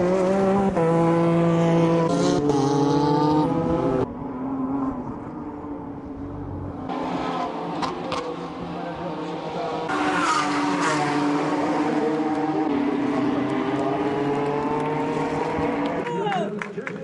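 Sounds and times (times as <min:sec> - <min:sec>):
race car engines passing: 0:00.0 - 0:16.1.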